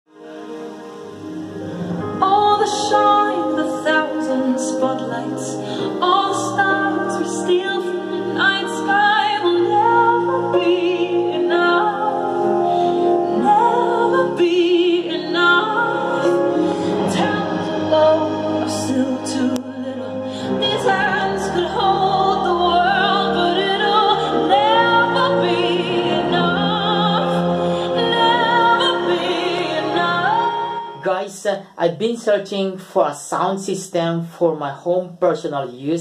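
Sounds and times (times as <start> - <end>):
sustained accompaniment: 0.2 - 31.1
woman singing with vibrato: 2.2 - 31.0.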